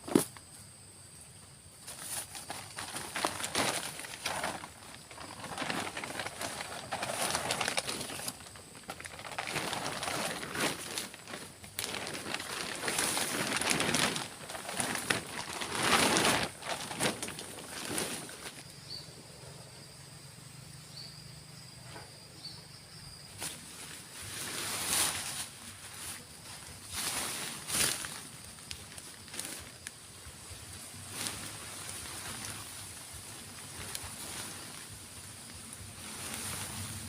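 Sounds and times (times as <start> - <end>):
rustling and brushing: 1.8 - 18.7, 23.4 - 29.9, 30.5 - 37.0.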